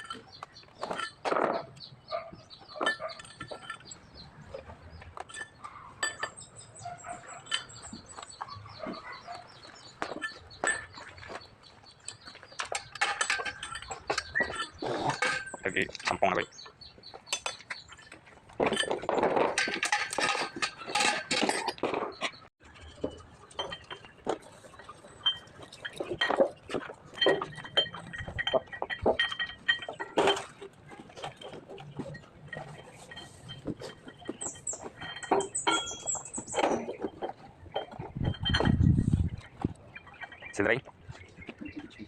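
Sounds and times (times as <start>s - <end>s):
metallic clinks of hand tools: 2.5s - 4.2s, 5.2s - 11.4s, 12.0s - 16.7s, 17.3s - 40.8s.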